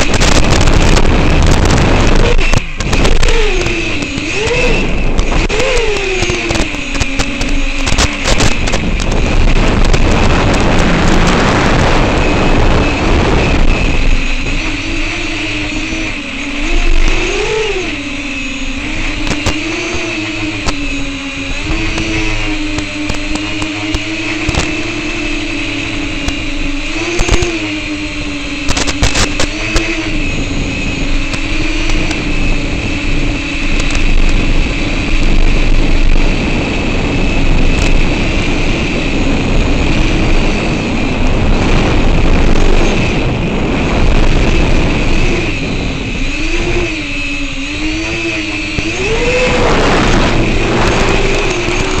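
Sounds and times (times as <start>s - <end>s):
drone motors buzzing: 0.0s - 52.0s.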